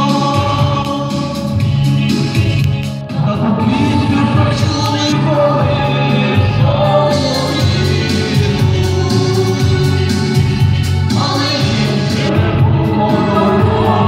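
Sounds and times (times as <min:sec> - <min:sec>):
choir singing with accompaniment: 0:00.0 - 0:14.0.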